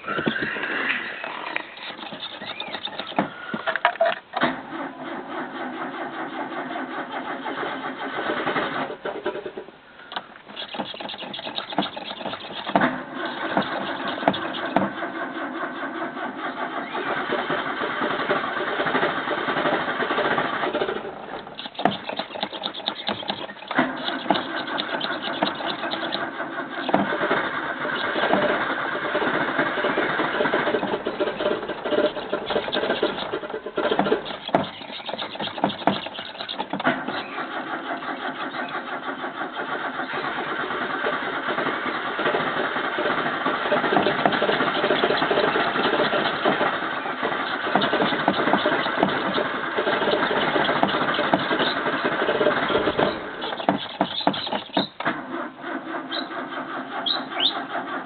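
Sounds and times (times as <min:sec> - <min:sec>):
starter cranking engine: 0:00.0 - 0:58.0.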